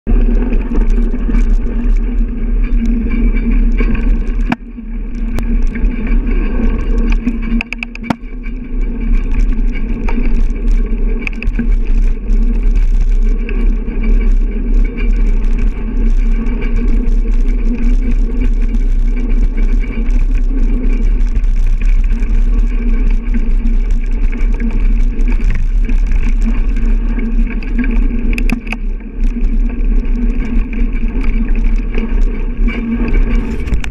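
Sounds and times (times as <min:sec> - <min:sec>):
bicycle tyres rumbling on snow: 0:00.0 - 0:33.9
bicycle clicks: 0:00.1 - 0:33.9.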